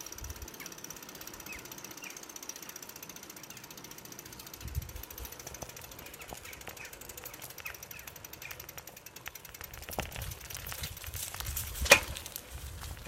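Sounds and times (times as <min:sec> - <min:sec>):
bicycle freewheel ticking: 0:00.0 - 0:13.0.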